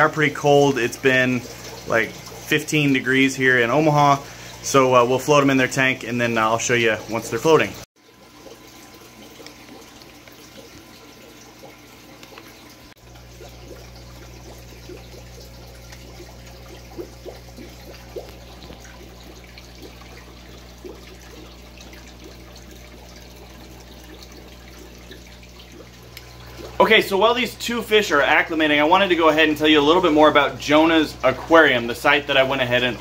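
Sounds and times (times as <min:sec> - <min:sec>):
aquarium water trickling and bubbling: 0:00.0 - 0:33.0.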